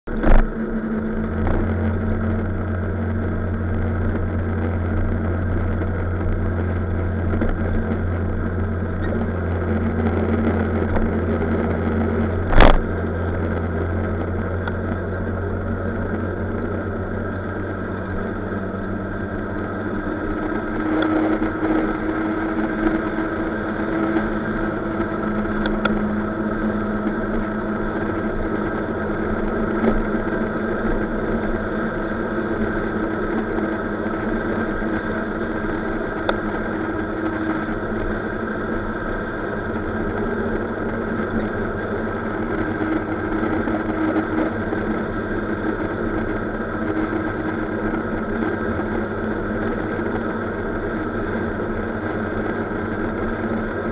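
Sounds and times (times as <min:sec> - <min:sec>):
scooter engine droning: 0:00.0 - 0:53.9
wind and road noise: 0:00.0 - 0:53.9.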